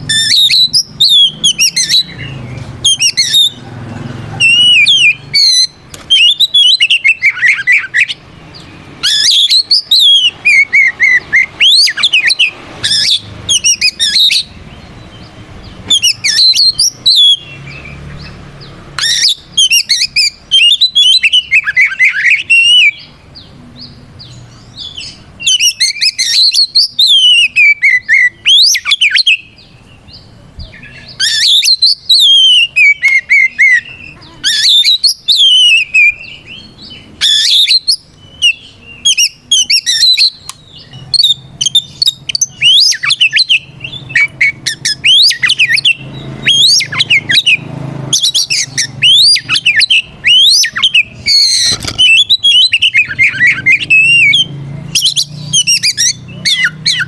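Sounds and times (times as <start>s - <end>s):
magpie-robin singing: 0.0s - 57.0s.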